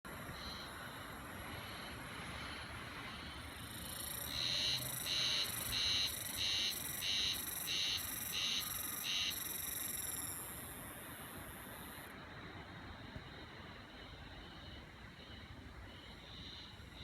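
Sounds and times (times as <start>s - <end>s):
cicada pulsing call: 0.1s - 12.1s, 13.8s - 17.0s.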